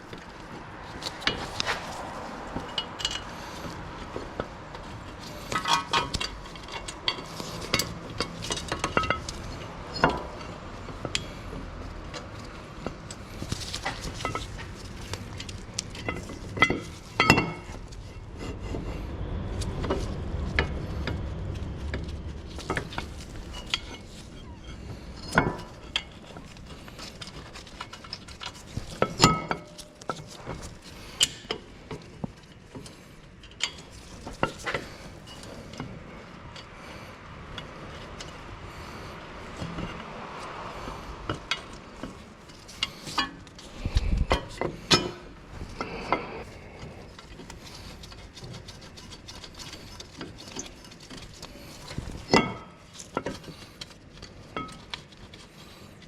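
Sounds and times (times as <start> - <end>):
metal tools clinking and clanking: 0.0 - 18.8, 19.8 - 56.0.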